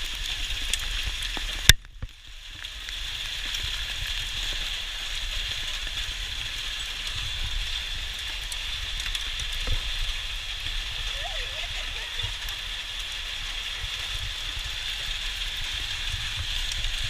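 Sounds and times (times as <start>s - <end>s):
hail pattering: 0.0s - 17.0s.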